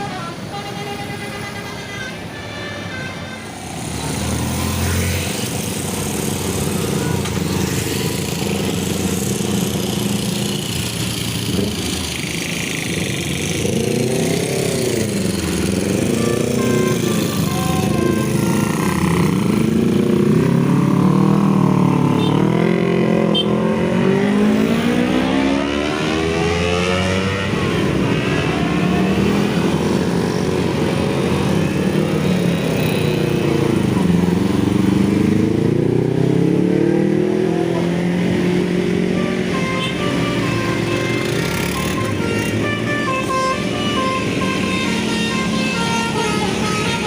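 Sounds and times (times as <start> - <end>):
road traffic engines revving: 0.0 - 47.0.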